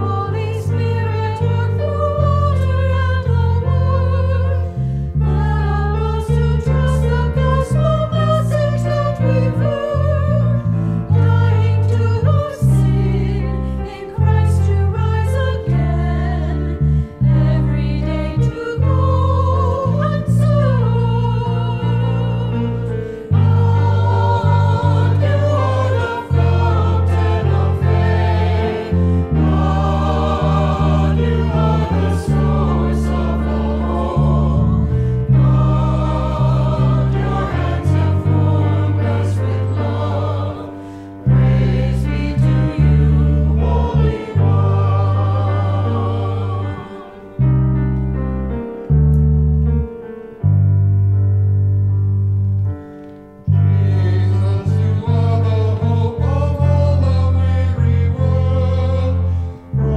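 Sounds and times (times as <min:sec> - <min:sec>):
group singing a hymn: 0:00.0 - 0:47.6, 0:53.6 - 0:59.9
low bass notes: 0:00.0 - 0:59.9.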